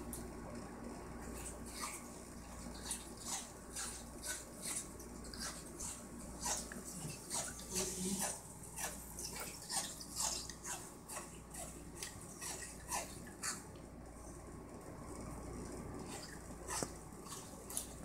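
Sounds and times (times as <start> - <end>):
dog chewing on a toy: 1.2 - 13.8, 16.0 - 18.0.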